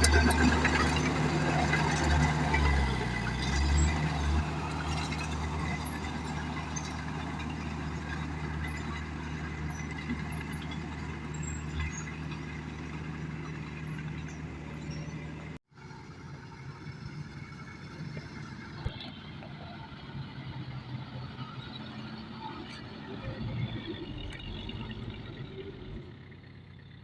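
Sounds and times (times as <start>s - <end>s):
heavy diesel engine running: 0.0s - 27.0s
quieter engine noise: 0.0s - 27.0s.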